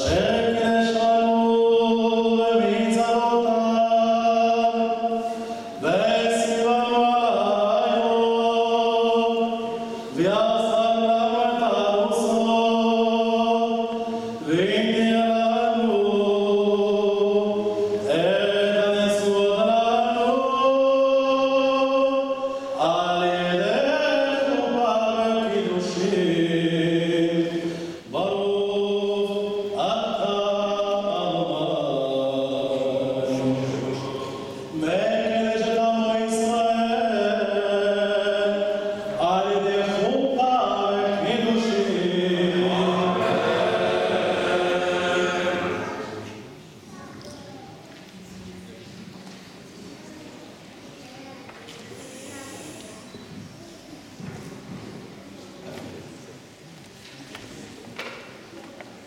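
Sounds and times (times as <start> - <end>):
person chanting slowly: 0.0 - 47.4.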